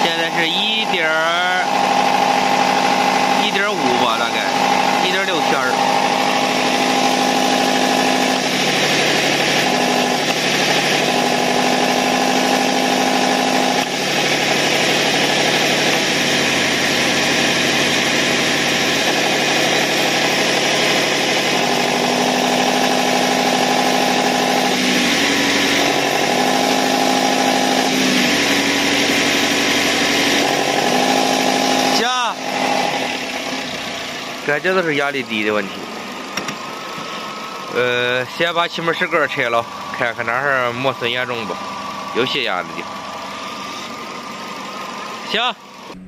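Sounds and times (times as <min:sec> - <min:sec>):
car engine running: 0:00.0 - 0:46.0
engine whine: 0:00.0 - 0:46.0.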